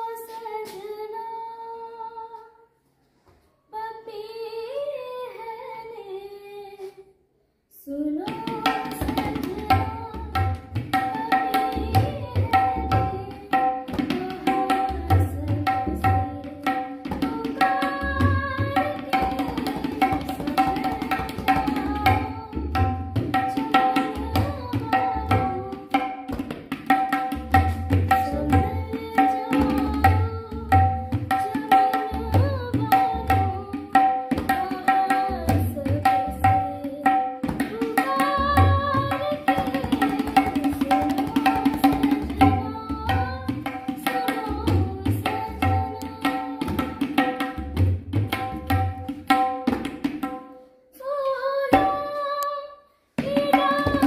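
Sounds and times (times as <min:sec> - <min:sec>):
woman singing: 0:00.0 - 0:02.7, 0:03.7 - 0:47.7, 0:50.9 - 0:54.0
tabla playing rhythm: 0:08.2 - 0:50.6, 0:51.7 - 0:52.2, 0:53.2 - 0:54.0.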